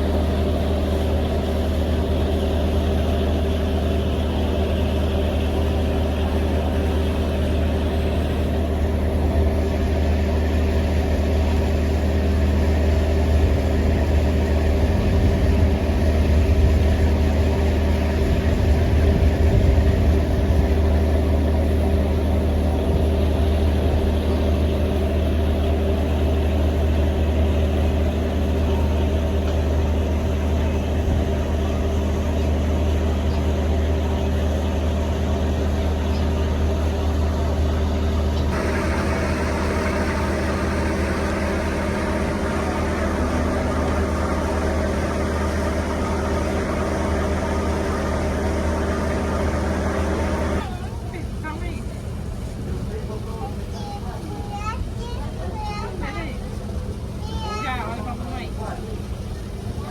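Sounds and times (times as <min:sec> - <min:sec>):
boat engine droning: 0:00.0 - 0:59.9
steady hum: 0:05.0 - 0:53.2.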